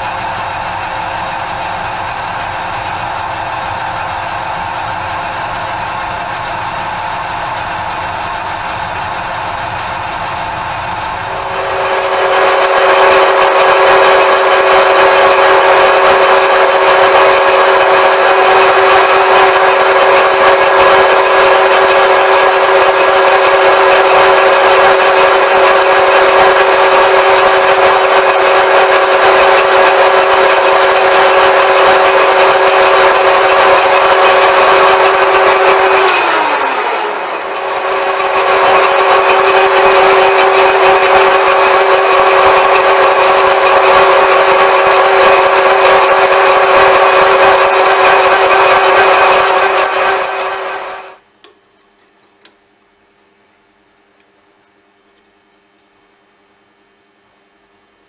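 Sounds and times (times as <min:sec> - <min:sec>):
metal lathe whining: 0:00.0 - 0:51.2.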